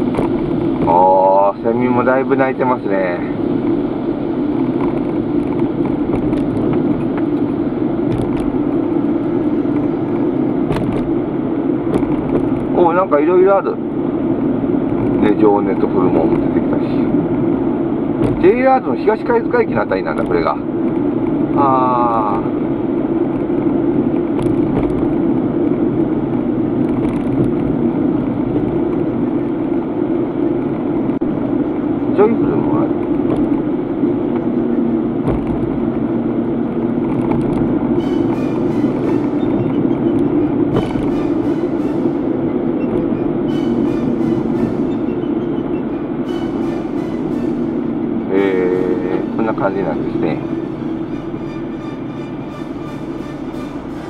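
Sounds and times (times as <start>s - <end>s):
engine and tyre rumble: 0.0s - 52.5s.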